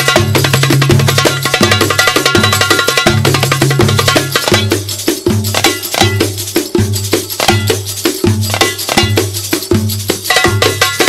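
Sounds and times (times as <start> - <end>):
music with quick beat: 0.0 - 11.0.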